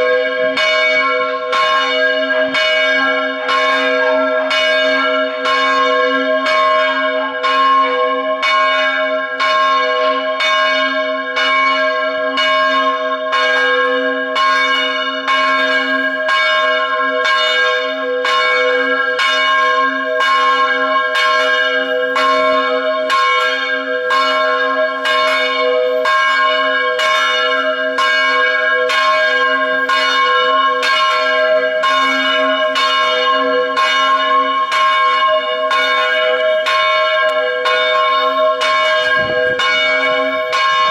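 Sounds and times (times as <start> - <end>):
church bell ringing: 0.0 - 40.9.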